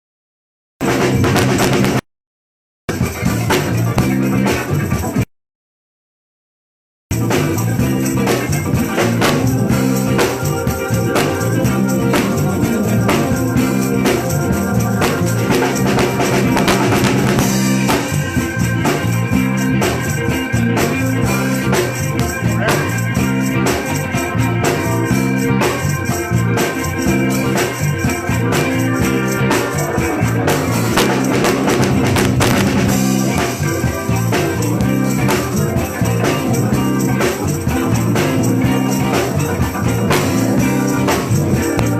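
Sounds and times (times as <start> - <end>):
live band music: 0.8 - 2.0, 2.9 - 5.3, 7.1 - 41.9
steady drum beat: 0.8 - 2.0, 2.9 - 5.3, 7.1 - 41.9.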